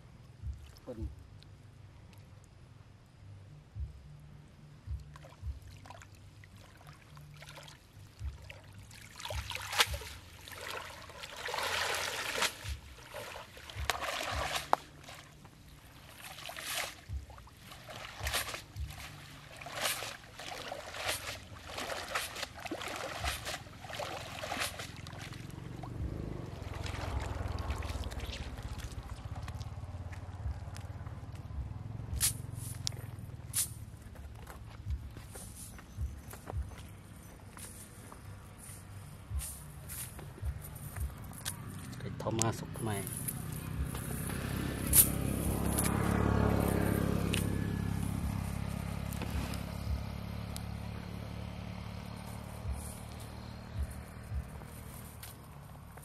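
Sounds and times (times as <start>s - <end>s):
water splashing and sloshing: 0.4s - 2.3s, 4.9s - 56.0s.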